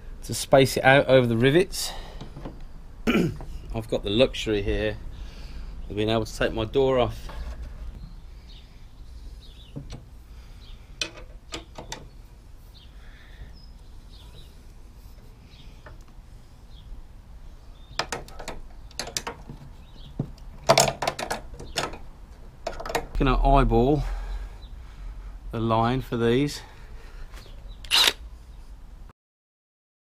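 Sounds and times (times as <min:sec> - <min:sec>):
faint birds chirping: 0:00.0 - 0:29.1.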